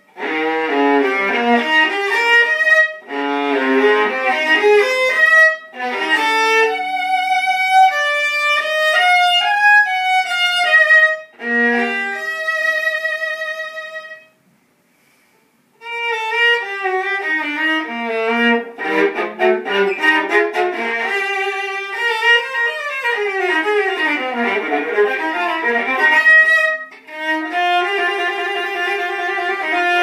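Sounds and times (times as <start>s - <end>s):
violin played with bow: 0.0s - 14.4s, 15.8s - 30.0s.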